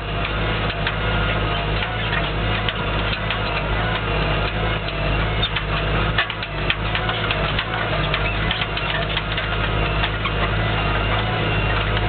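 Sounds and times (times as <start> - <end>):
ticking and rattling: 0.0 - 12.0
tractor diesel engine running: 0.0 - 12.0.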